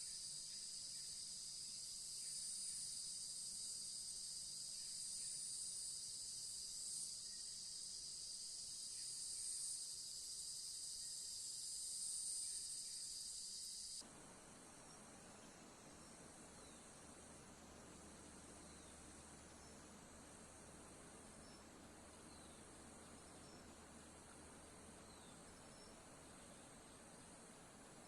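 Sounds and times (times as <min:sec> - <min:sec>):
faint hiss: 0:00.0 - 0:28.0
insects chirring: 0:00.0 - 0:28.0.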